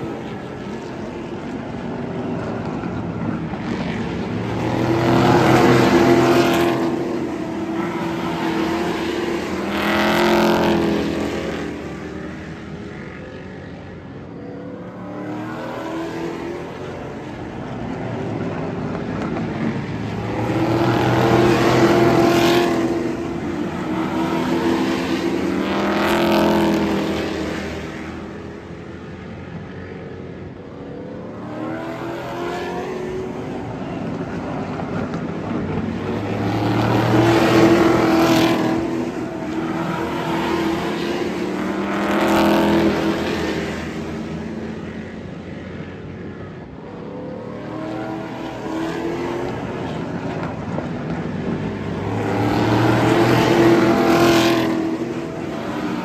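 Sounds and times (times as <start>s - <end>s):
race cars passing: 0.0s - 56.0s.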